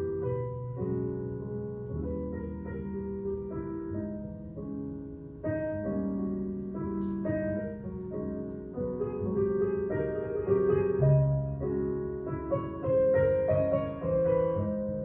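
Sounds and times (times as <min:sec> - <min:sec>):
jazz piano music: 0:00.0 - 0:15.0.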